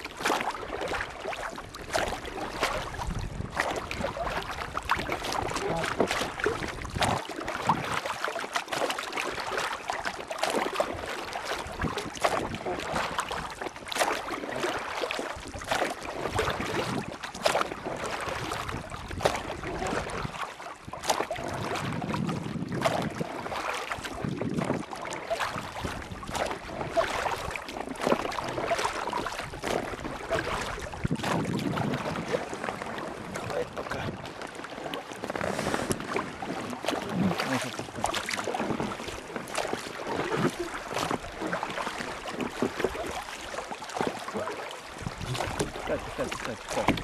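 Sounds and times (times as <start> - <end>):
water splashes: 0.0 - 47.0.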